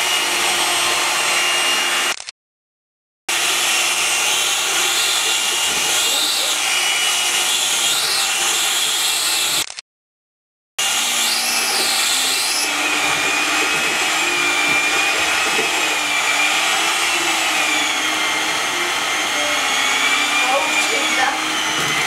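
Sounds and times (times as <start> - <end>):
electric hand mixer whirring: 0.0 - 2.3, 3.3 - 9.8, 10.8 - 22.0.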